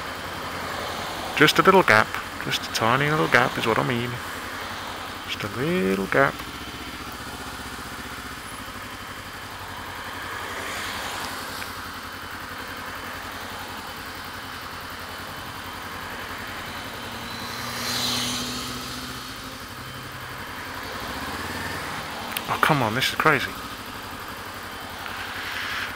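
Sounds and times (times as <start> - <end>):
motorcycle idling: 0.0 - 25.9
passing vehicles: 0.0 - 25.9.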